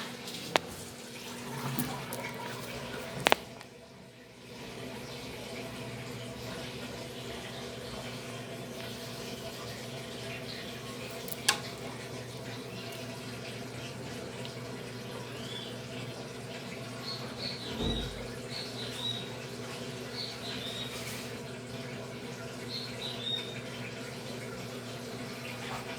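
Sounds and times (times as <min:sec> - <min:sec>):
water rushing into washing machine: 0:00.0 - 0:25.9.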